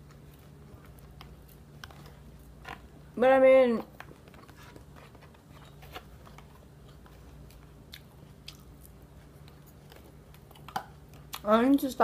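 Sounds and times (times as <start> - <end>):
person chewing salad: 0.0 - 2.9, 4.0 - 11.5.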